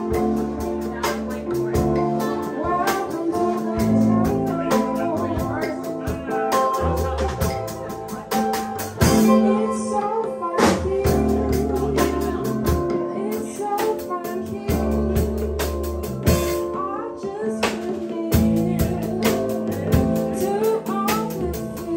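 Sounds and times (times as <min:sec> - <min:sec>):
drums with steady beat: 0:00.0 - 0:21.9
guitar: 0:00.0 - 0:21.9
person singing: 0:00.0 - 0:21.9.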